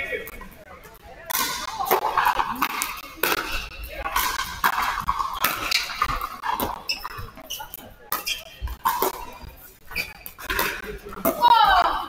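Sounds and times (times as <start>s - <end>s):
sneakers squeaking on court: 1.6s - 11.4s.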